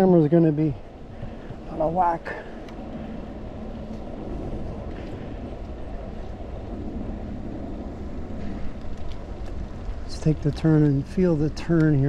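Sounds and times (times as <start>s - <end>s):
bike tyres rumbling on asphalt: 0.0s - 12.0s
wind on microphone: 0.8s - 12.0s.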